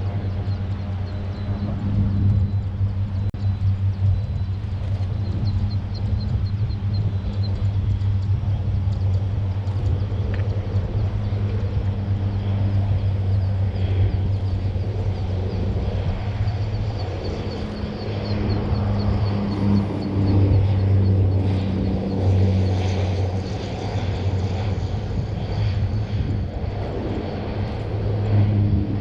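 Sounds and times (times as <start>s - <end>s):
low engine hum: 0.0s - 29.0s
noisy rush: 0.0s - 29.0s.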